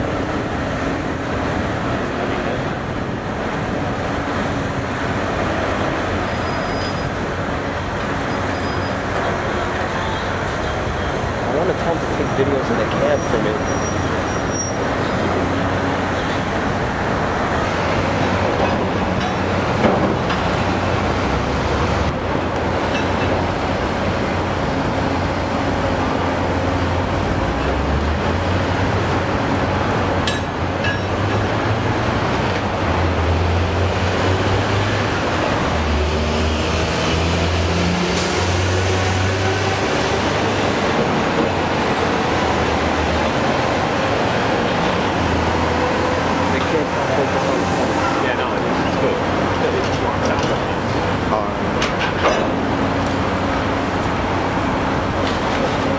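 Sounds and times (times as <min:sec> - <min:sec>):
construction site noise: 0:00.0 - 0:55.9
traffic noise: 0:00.0 - 0:55.9.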